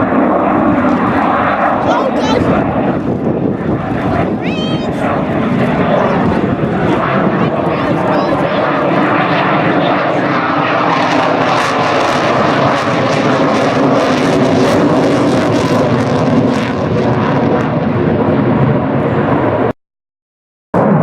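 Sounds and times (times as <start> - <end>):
jet engines roaring: 0.0 - 19.7, 20.8 - 21.0.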